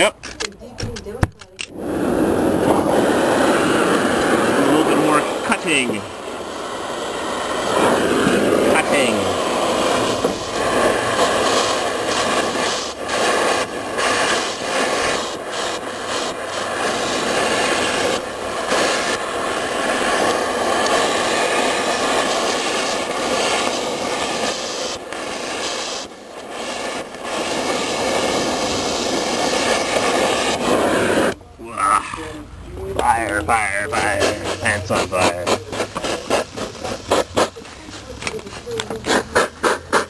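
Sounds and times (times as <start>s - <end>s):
cutting torch hissing: 1.6s - 40.0s.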